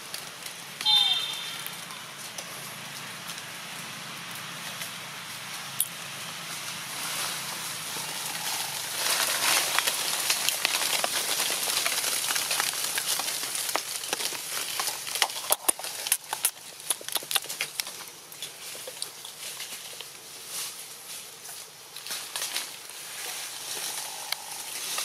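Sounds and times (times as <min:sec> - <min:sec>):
dry leaves crackling and rustling: 0:00.0 - 0:25.0.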